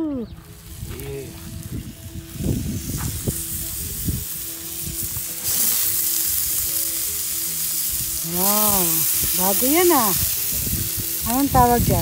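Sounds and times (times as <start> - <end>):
sausages sizzling on a griddle: 0.5 - 12.0.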